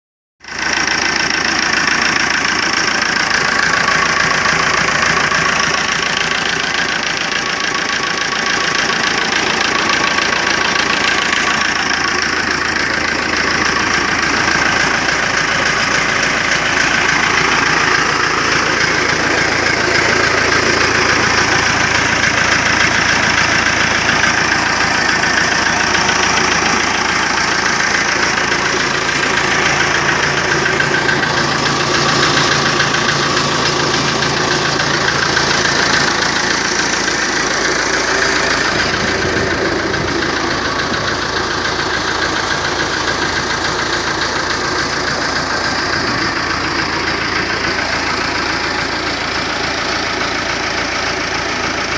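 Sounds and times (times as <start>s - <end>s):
tractor diesel engine idling: 0.4s - 51.9s.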